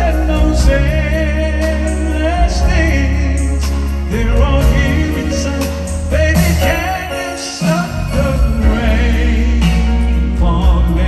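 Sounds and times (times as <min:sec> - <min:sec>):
live band playing slow ballad: 0:00.0 - 0:11.0
male lead vocal: 0:00.0 - 0:11.0.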